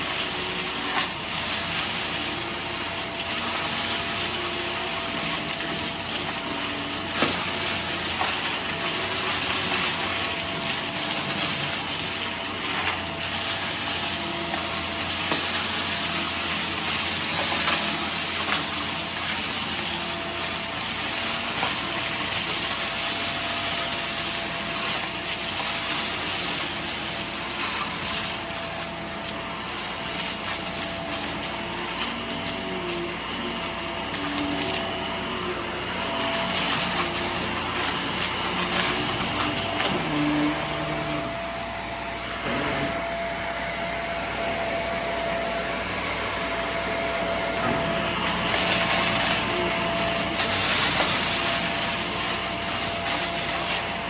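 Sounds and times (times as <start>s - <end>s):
debris crackling in vacuum: 0.0s - 54.0s
vacuum cleaner running: 0.0s - 54.0s.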